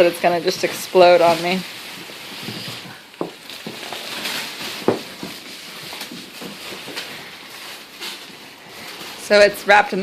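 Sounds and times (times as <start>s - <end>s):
plastic wrapping rustling: 0.0s - 10.0s.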